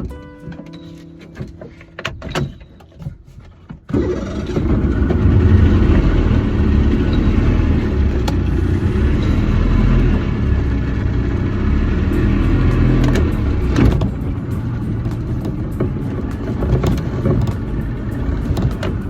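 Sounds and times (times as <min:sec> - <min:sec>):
outboard motor rumbling: 0:01.4 - 0:19.0.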